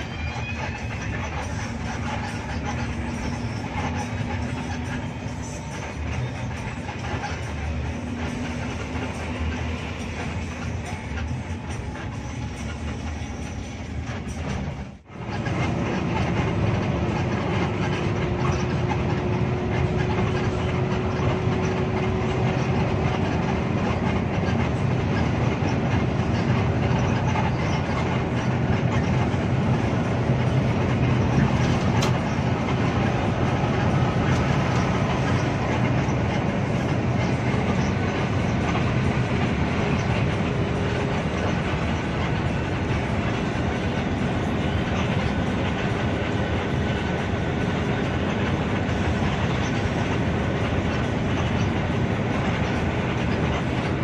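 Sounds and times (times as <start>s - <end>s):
diesel engine and tyres droning: 0.0s - 54.0s.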